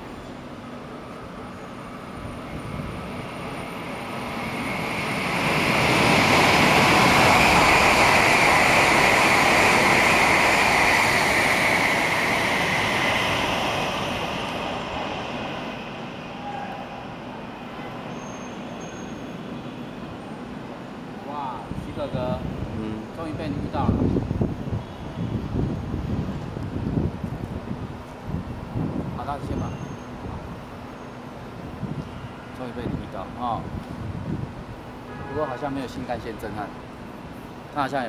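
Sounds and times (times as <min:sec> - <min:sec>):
high-speed train rushing past: 0:00.0 - 0:38.0.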